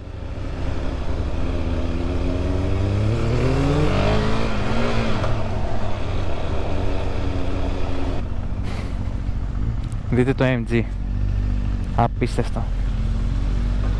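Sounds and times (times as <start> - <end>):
vehicle engine accelerating: 0.0 - 13.9
wind and road noise: 0.0 - 13.9.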